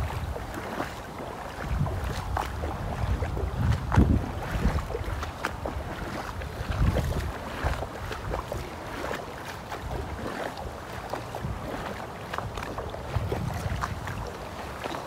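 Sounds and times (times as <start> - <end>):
footsteps splashing through water: 0.0 - 15.0
wind rumble on microphone: 0.0 - 15.0.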